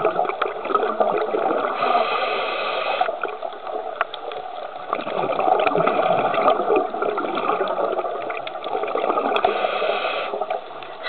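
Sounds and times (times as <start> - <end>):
bubbles gurgling underwater: 0.0 - 2.1, 3.0 - 10.8.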